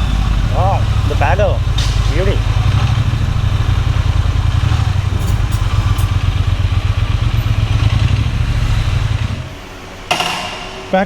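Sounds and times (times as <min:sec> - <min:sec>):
motorcycle engine running at low revs: 0:00.0 - 0:10.4.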